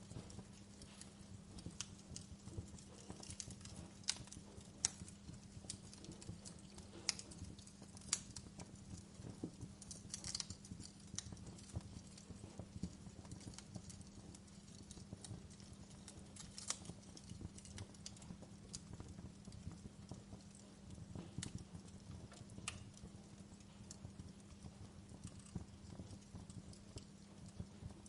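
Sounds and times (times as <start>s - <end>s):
fire crackling: 0.0s - 28.0s.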